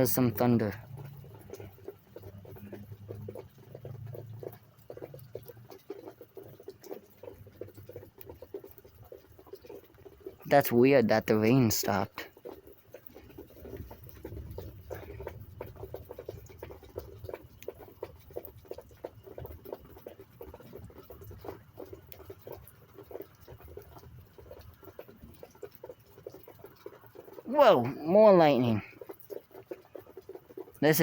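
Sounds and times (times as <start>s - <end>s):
water dripping: 0.0s - 31.0s.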